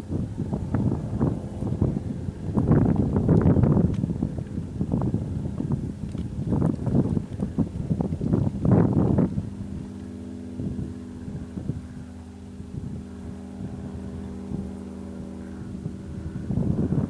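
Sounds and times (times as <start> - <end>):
engine droning: 0.0 - 17.0
wind buffeting microphone: 0.0 - 17.0.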